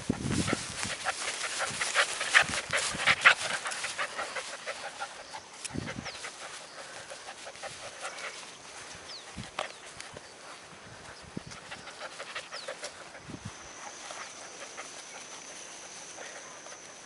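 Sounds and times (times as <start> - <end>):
puppy panting: 0.0 - 10.1, 11.4 - 17.0.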